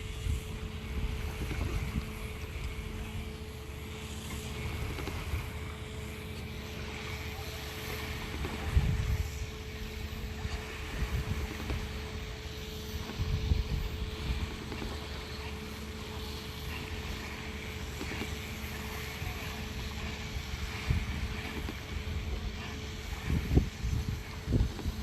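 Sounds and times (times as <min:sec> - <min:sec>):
boat engine humming: 0:00.0 - 0:25.0
wind buffeting microphone: 0:00.0 - 0:25.0.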